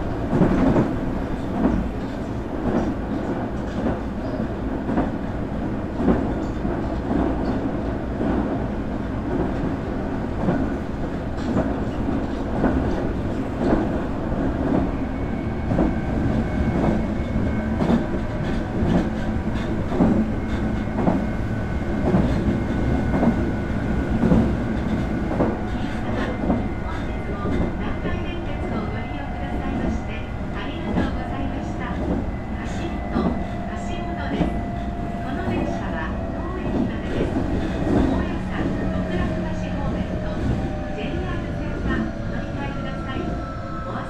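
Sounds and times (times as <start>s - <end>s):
train running rumble: 0.0s - 44.0s.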